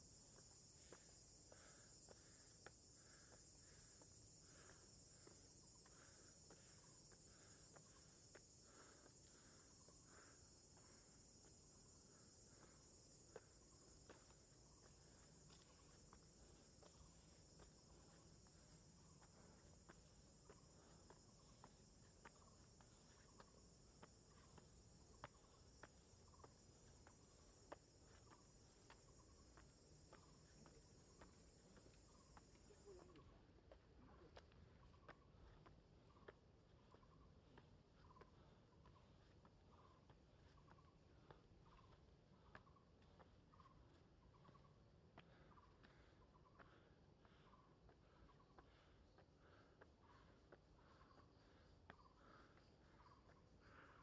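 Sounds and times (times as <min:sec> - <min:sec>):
high-pitched insect chorus: 0:00.0 - 0:54.0
footsteps on stone trail: 0:00.1 - 0:54.0.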